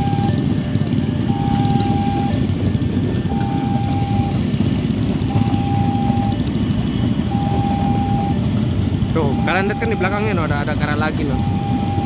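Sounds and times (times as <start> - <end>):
level crossing alarm beeping: 0.0 - 2.5, 3.2 - 6.5, 7.2 - 8.5, 9.2 - 12.0
motorbikes idling: 0.0 - 12.0
passing electric train rumble: 0.0 - 12.0.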